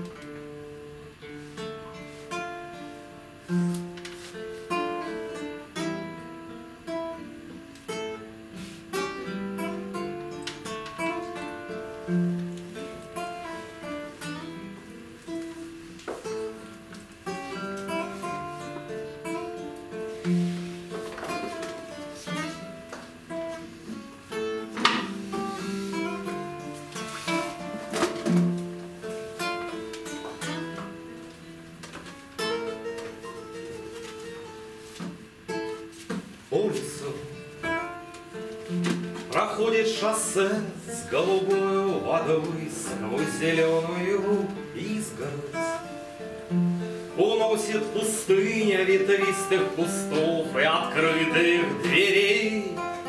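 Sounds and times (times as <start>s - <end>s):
classical guitar playing: 0.0s - 53.0s.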